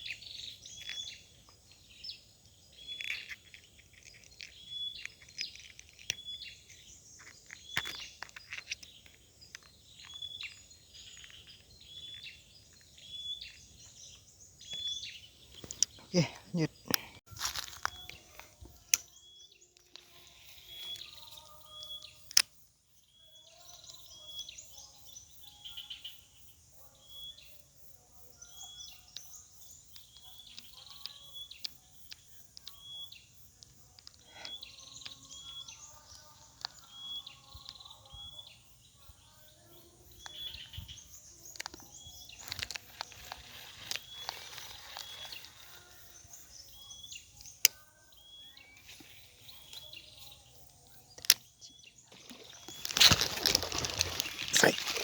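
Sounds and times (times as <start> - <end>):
birds chirping: 0.0 - 26.1, 28.4 - 55.0.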